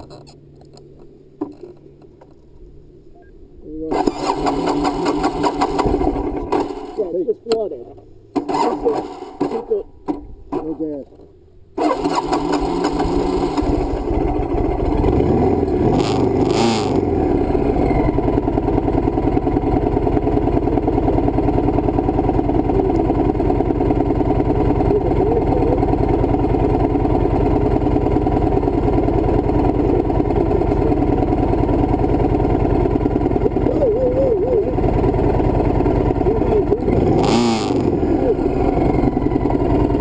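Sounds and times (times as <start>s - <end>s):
motorcycle engine running: 3.9s - 7.3s, 8.2s - 40.0s.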